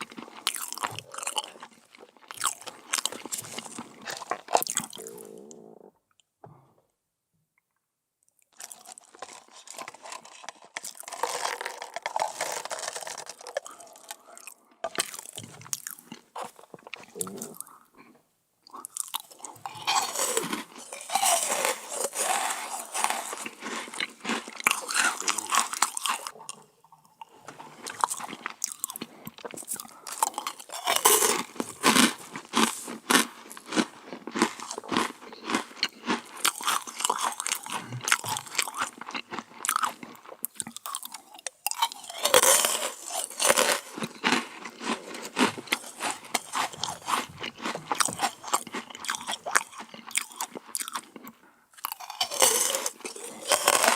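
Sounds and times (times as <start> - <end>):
person crunching dessert: 0.0 - 5.7, 8.4 - 53.9.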